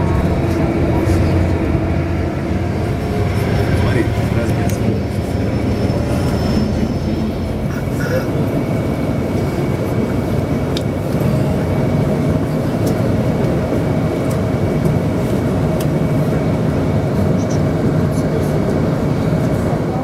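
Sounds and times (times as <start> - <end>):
jet engine rumble and whine: 0.0 - 20.0.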